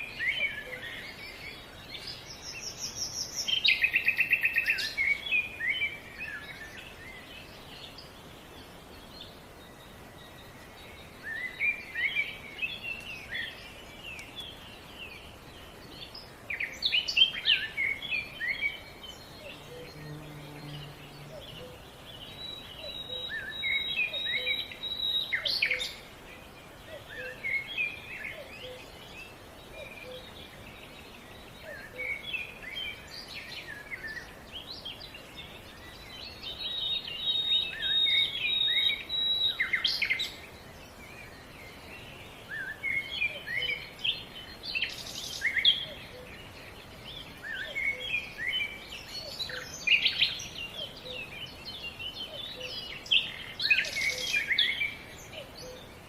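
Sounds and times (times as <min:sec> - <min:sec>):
faint outdoor background: 0:00.0 - 0:56.0
songbirds chirping and singing: 0:00.0 - 0:56.0.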